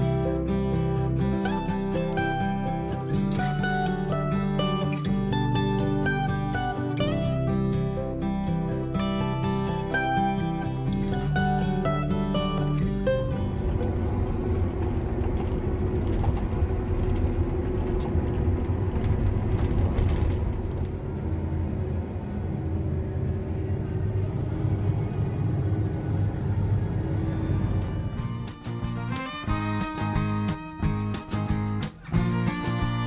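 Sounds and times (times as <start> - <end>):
heavy vehicle engine rumbling: 0.0 - 7.2, 11.0 - 33.0
plucked acoustic guitar music: 0.0 - 20.8, 27.4 - 33.0.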